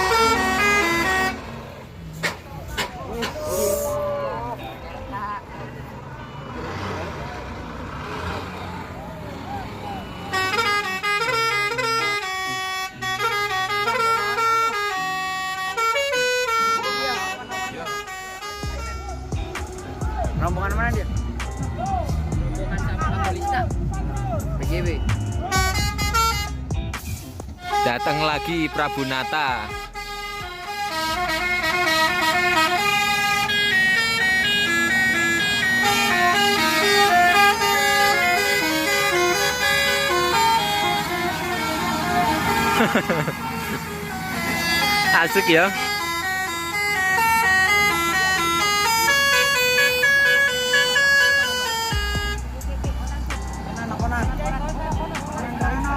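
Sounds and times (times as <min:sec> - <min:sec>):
multi-tone bus horn melody: 0:00.0 - 0:55.9.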